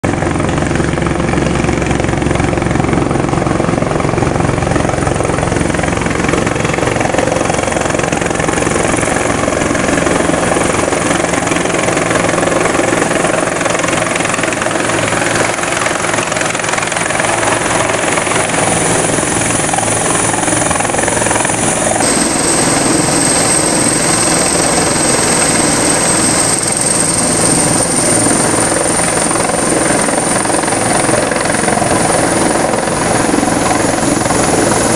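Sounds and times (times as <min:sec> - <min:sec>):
helicopter rotor and engine: 0:00.0 - 0:34.9
high turbine whine: 0:00.1 - 0:34.9.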